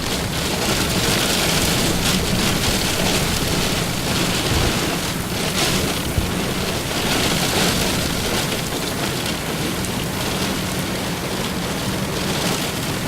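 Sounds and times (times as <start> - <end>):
low thunder rumble: 0.0 - 10.8
heavy rain hiss: 0.0 - 13.0.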